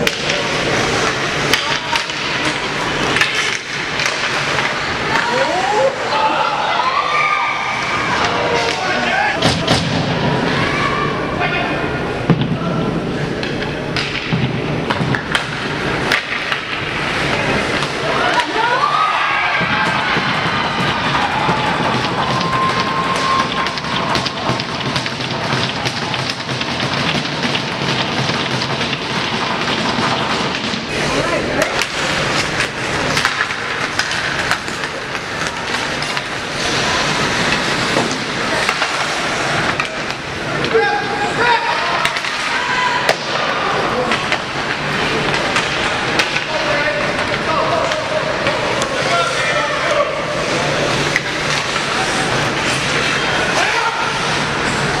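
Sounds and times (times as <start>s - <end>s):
hockey sticks and puck clacking: 0.0s - 6.0s, 7.1s - 10.2s, 13.2s - 55.0s
rink crowd hubbub: 0.0s - 55.0s.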